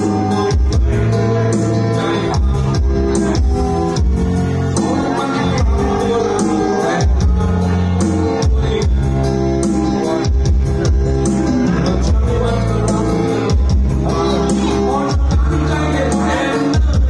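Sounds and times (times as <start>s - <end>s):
loud music with heavy bass: 0.0s - 17.0s.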